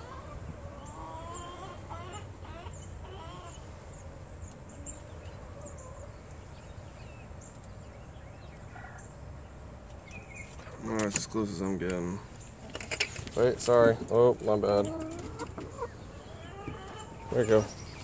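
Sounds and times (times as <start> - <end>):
chickens clucking: 0.0 - 6.8, 9.9 - 18.0
small birds chirping: 0.0 - 18.0.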